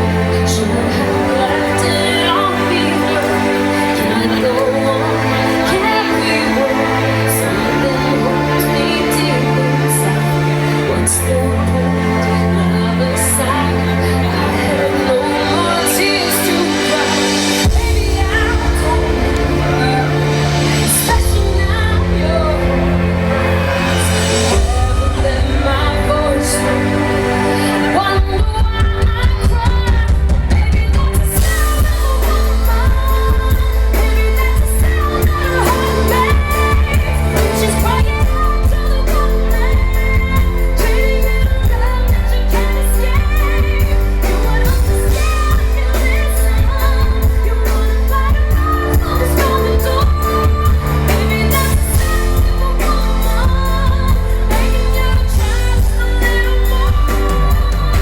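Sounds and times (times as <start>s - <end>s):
live band with heavy bass: 0.0s - 58.0s
woman singing pop song: 0.0s - 58.0s.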